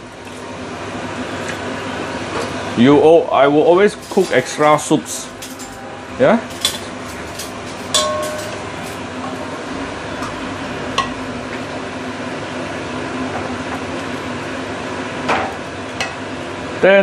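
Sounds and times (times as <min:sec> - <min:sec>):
steady hum and hiss: 0:00.0 - 0:17.0.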